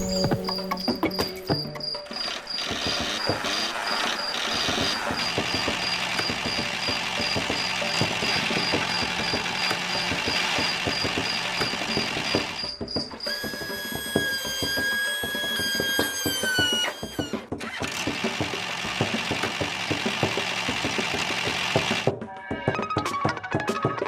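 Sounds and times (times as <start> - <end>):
small motor clattering and whining: 0.0 - 22.1.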